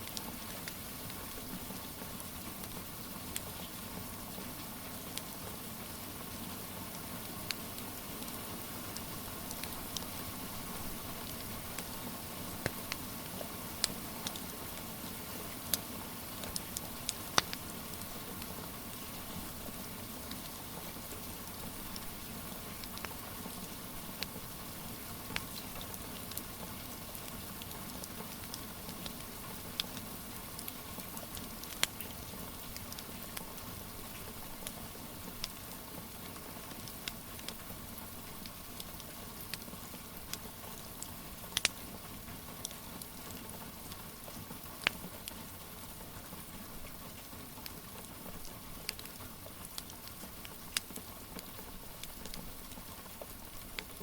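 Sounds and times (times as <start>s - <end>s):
wood fire crackling: 6.9s - 54.0s.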